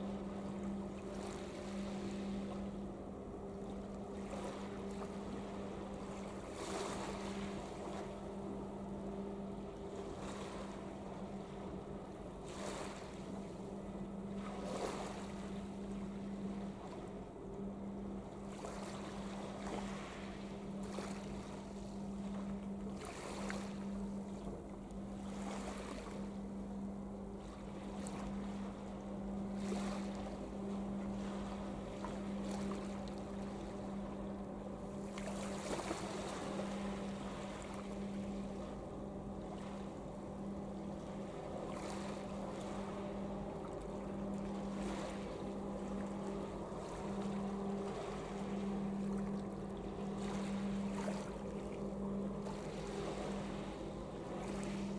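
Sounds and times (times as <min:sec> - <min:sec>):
ship engines droning: 0:00.0 - 0:54.9.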